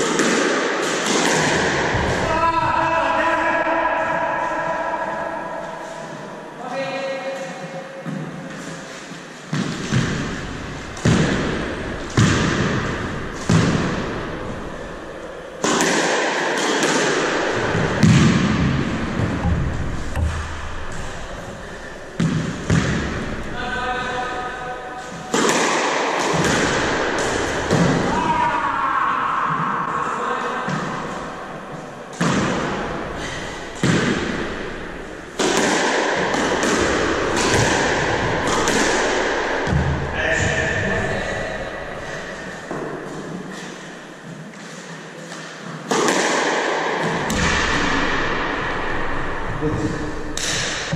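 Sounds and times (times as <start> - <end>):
squash ball hits: 0.0 - 3.6, 9.5 - 28.6, 30.6 - 43.9, 45.3 - 49.2, 49.8 - 50.9.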